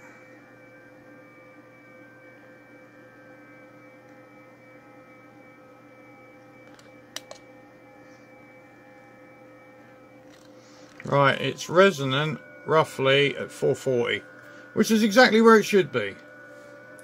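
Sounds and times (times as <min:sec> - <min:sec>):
electrical hum: 0:00.0 - 0:17.0
steady electronic tones: 0:00.0 - 0:17.0.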